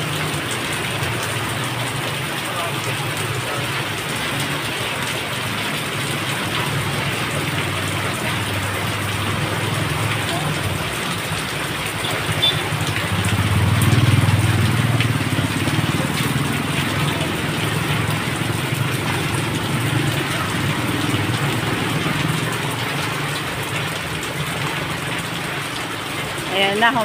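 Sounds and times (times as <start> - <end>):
heavy rain hissing: 0.0 - 27.0
water streaming off roof: 0.0 - 27.0.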